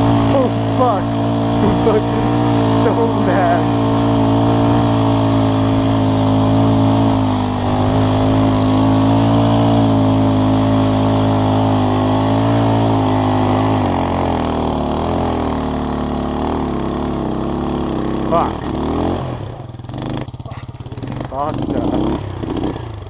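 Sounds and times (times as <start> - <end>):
vehicle engine under load: 0.0 - 23.0.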